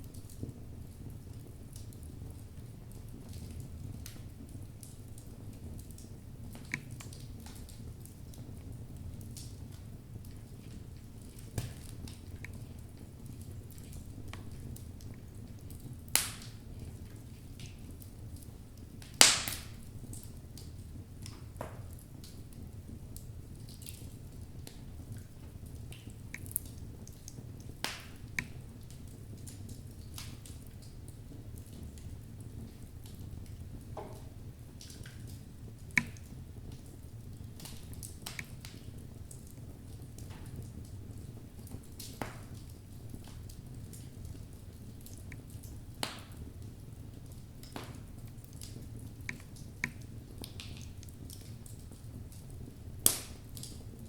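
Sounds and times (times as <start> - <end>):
fire flame rumble: 0.0 - 54.0
logs crackling and popping: 0.0 - 54.0.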